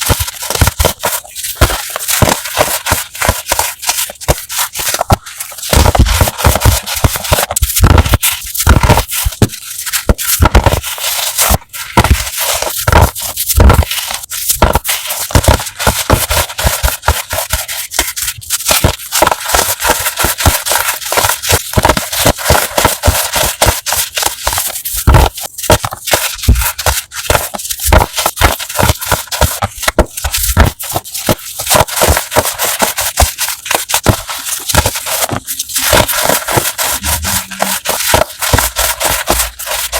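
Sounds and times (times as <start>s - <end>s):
chalk crackling as crushed: 0.0s - 39.9s.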